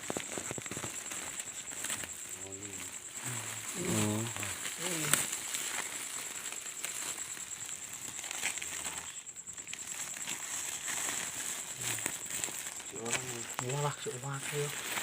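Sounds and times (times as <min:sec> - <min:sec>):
insect trill: 0:00.0 - 0:15.0
rustling and crackling: 0:00.0 - 0:15.0.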